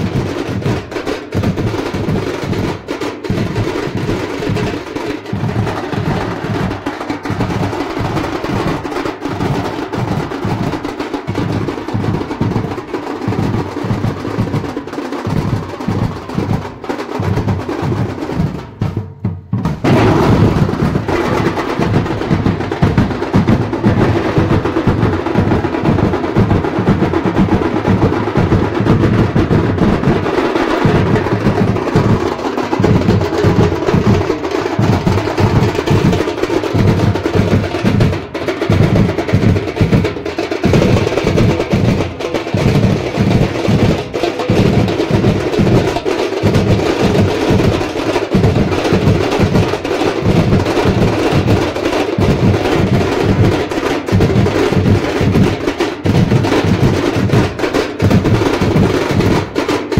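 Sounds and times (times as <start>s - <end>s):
music with drum beat: 0.0s - 59.9s.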